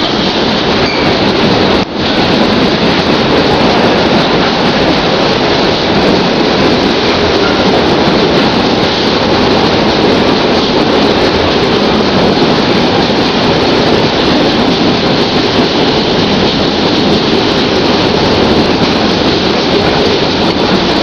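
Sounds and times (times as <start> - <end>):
freight train wagons passing: 0.0 - 21.0.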